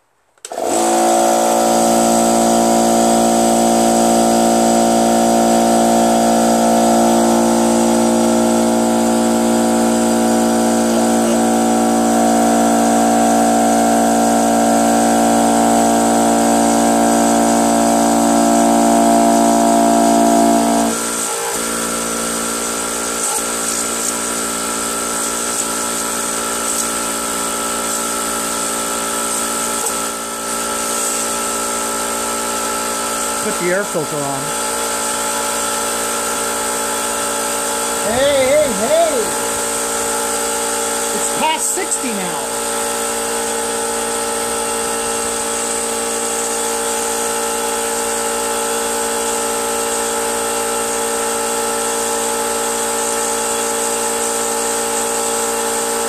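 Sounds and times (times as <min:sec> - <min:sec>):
electric air compressor running: 0:00.0 - 0:56.0.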